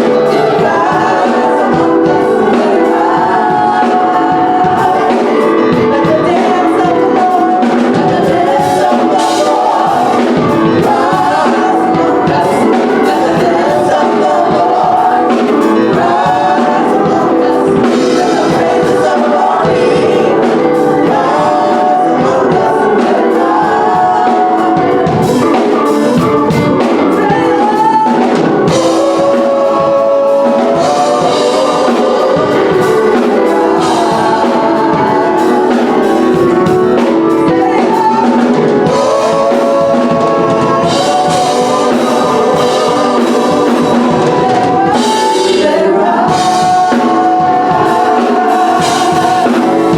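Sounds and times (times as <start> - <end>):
drums: 0.0 - 49.9
gospel choir singing: 0.0 - 49.9
instrumental backing: 0.0 - 49.9.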